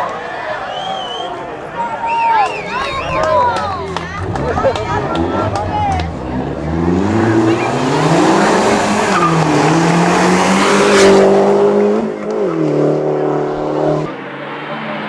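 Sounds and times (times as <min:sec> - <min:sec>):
car engine approaching: 0:02.5 - 0:15.0
race car engine revving: 0:02.7 - 0:15.0.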